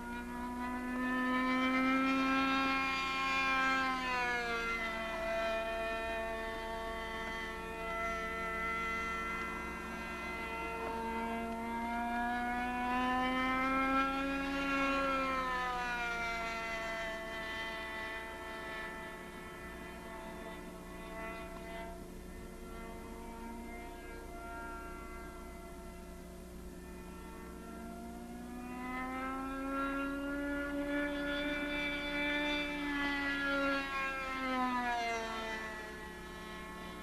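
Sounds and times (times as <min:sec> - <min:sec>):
electrical hum: 0:00.0 - 0:37.0
model aircraft engine: 0:00.0 - 0:37.0.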